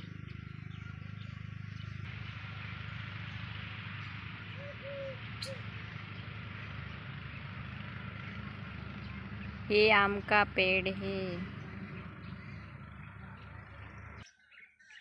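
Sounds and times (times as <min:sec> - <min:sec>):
short arching calls: 0:00.0 - 0:14.2
steady low hum: 0:00.0 - 0:14.2.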